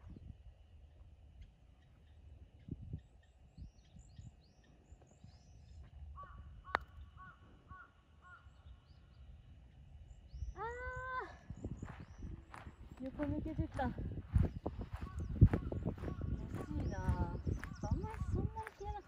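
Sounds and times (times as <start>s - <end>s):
birds chirping: 1.4s - 19.0s.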